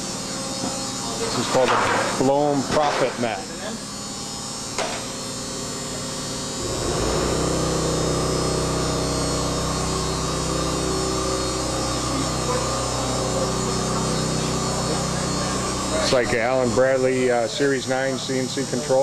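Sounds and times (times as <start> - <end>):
machinery hum: 3.3 - 19.0.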